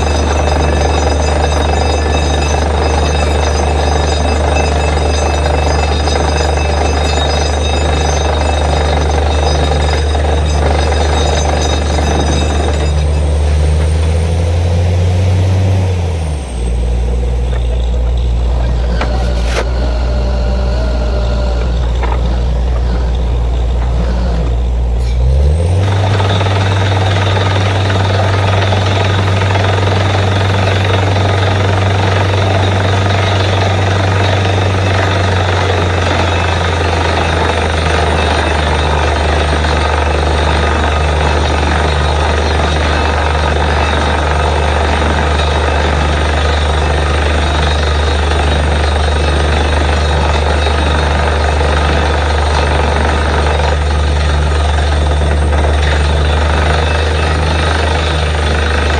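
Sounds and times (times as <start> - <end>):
diesel engine revving: 0.0 - 58.9
drilling rushing noise: 0.0 - 58.9.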